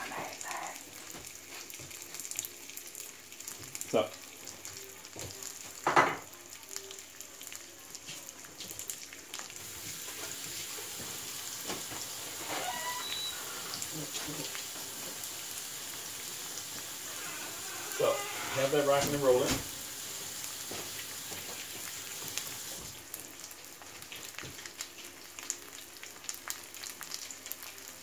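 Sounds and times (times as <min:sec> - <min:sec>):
fish sizzling in frying pan: 0:00.0 - 0:28.0.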